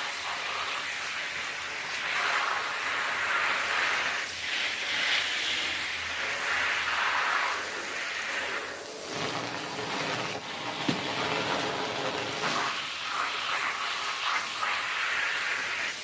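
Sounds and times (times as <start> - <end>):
scrubbing rug: 0.0 - 16.0
water spray hissing: 0.0 - 16.0.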